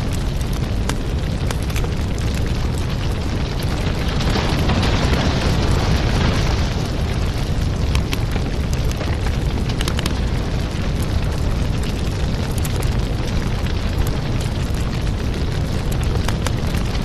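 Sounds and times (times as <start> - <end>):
low rumble of flames: 0.0 - 17.0
sharp fire crackles: 0.0 - 17.0.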